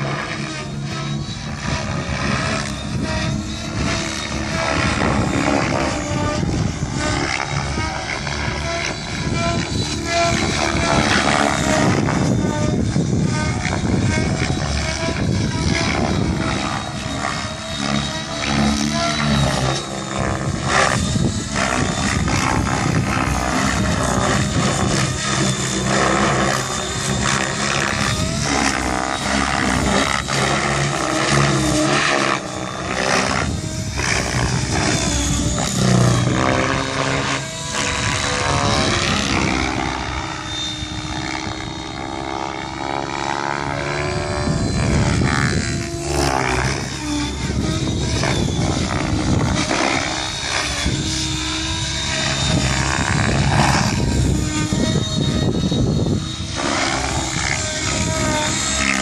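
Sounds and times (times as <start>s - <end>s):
electric motor whining: 0.0s - 59.0s
rotor blades whooshing: 0.0s - 59.0s.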